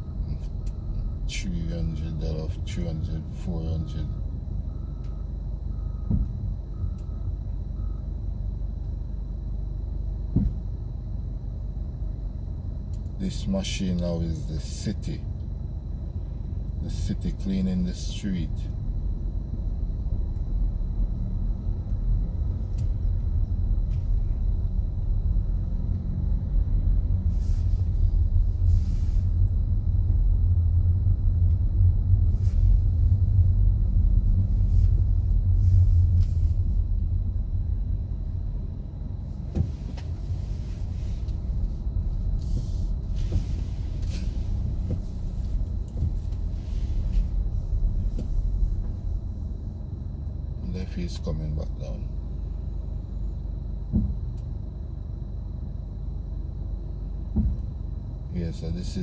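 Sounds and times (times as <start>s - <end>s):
snow-clearing machine engine rumble: 0.0s - 9.0s, 9.6s - 59.0s.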